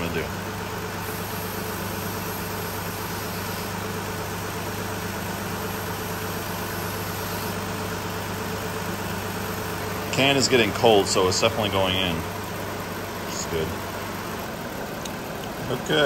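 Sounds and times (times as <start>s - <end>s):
air conditioning rushing: 0.0s - 16.0s
car engine idling: 0.0s - 16.0s.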